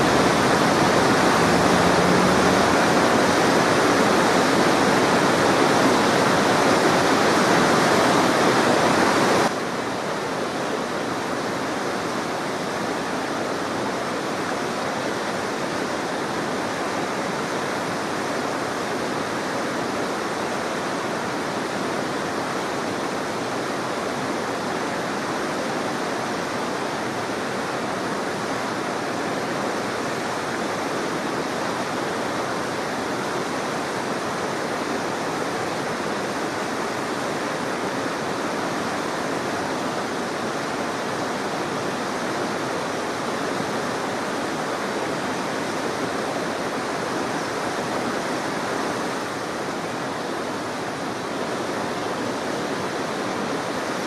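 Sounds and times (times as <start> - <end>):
river water rushing over weir: 0.0 - 54.0.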